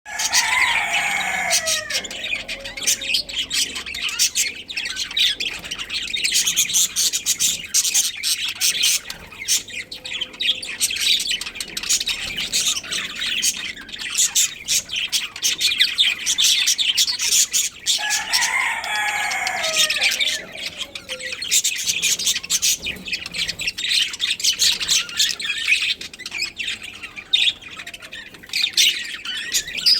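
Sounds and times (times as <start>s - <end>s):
budgerigars chirping and chattering: 0.1s - 29.9s.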